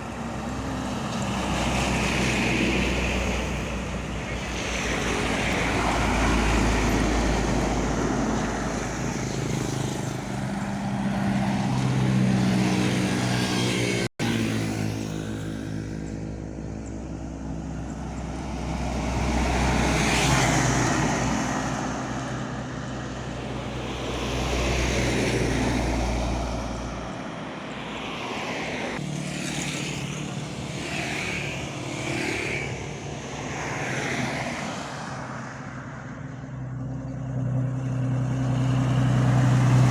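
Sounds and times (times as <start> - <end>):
road and traffic noise: 0.0 - 39.9.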